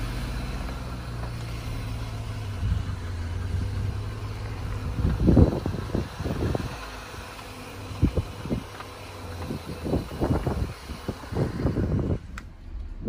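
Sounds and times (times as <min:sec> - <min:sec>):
engine and drivetrain rumble: 0:00.0 - 0:13.0
wind buffeting microphone: 0:02.1 - 0:13.0.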